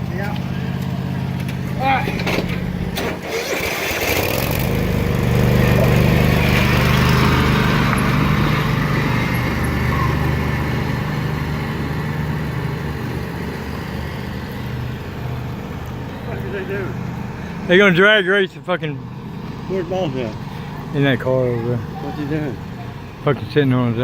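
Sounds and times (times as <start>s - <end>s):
lawnmower engines racing: 0.0s - 24.0s.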